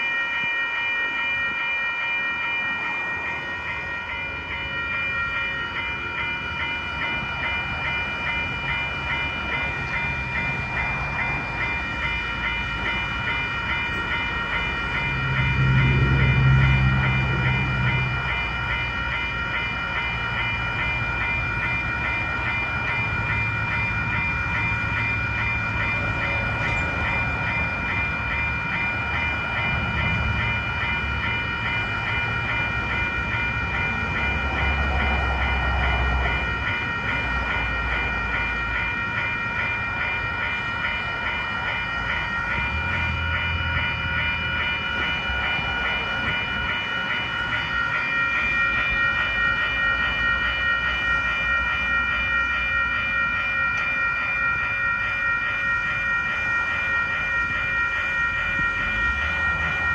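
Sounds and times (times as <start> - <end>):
railroad crossing bells ringing: 0.0 - 59.9.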